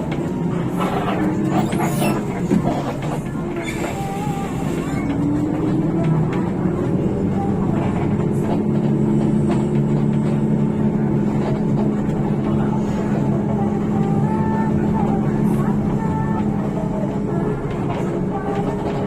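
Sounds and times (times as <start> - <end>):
bus diesel engine running: 0.0 - 19.0
road noise rumble: 0.0 - 19.0.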